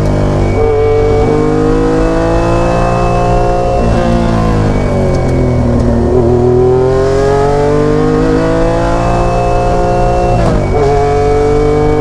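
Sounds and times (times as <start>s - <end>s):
engine accelerating with upshift: 0.0s - 12.0s.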